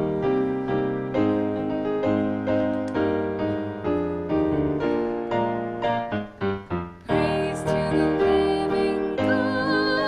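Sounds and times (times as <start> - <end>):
piano playing hymn chords: 0.0 - 10.0.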